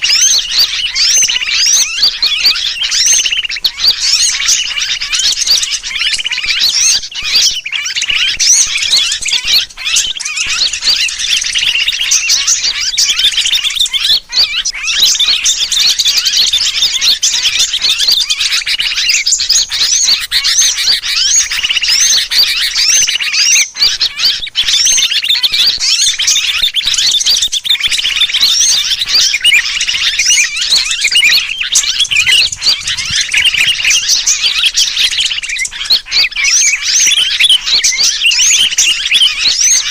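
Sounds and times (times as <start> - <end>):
bird distress calls: 0.0 - 39.9
chatter of many small birds: 0.0 - 39.9.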